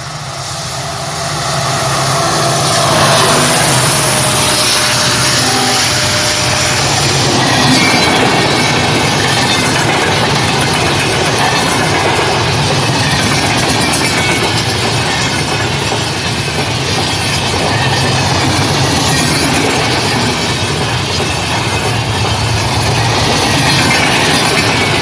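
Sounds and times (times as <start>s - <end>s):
train passing rush: 0.0s - 25.0s
wheels clattering on rails: 2.0s - 25.0s.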